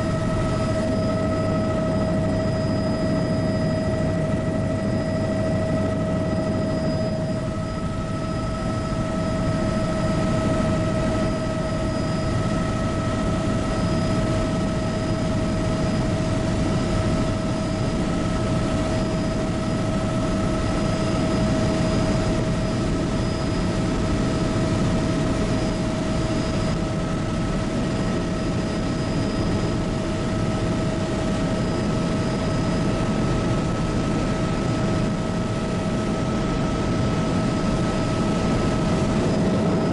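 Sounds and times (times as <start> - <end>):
helicopter rotor noise: 0.0 - 39.9
turbine engine whine: 0.0 - 39.9.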